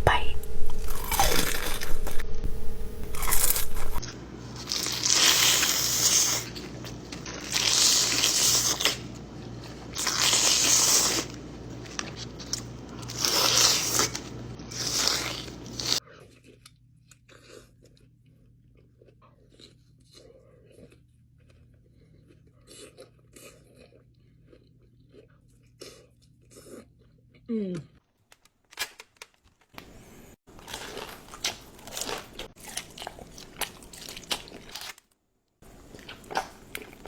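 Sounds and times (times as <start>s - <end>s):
loud crunching and chewing: 0.7s - 2.2s, 3.1s - 27.5s, 30.5s - 37.0s.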